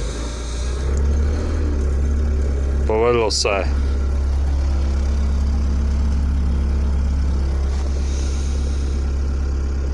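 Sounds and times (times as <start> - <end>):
forklift engine idling: 0.0 - 9.9.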